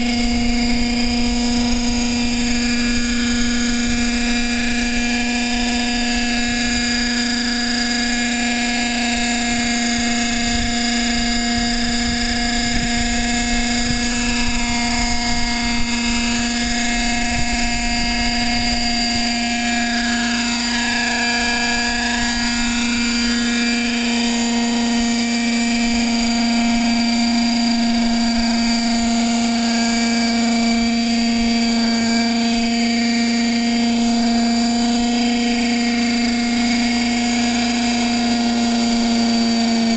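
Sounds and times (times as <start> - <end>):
model helicopter motor whining: 0.0 - 39.9.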